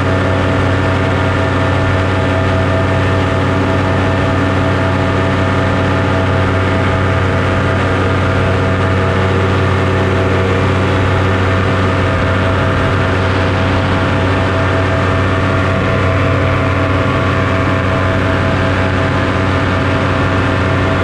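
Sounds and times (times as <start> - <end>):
aircraft engine humming: 0.0 - 21.0.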